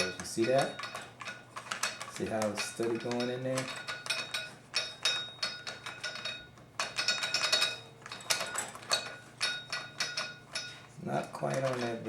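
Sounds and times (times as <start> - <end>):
metallic clutch parts clinking: 0.0 - 12.0.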